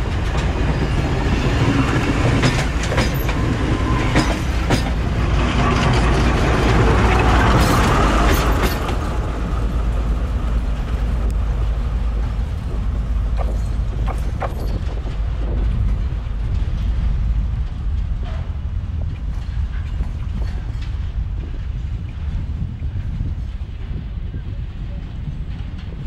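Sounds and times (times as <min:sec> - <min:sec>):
diesel train rumbling: 0:00.0 - 0:26.0.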